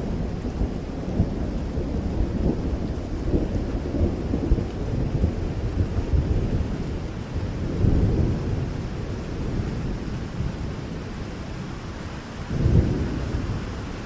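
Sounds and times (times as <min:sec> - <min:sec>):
low rolling thunder: 0:00.0 - 0:14.0
steady rain: 0:00.0 - 0:14.0.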